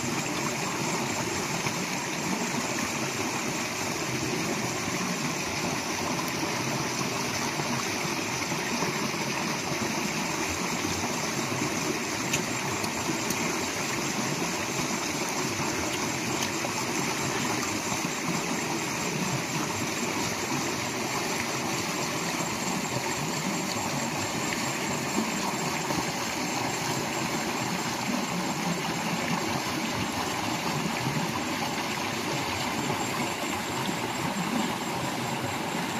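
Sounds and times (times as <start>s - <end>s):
stream rushing over rocks: 0.0s - 35.9s.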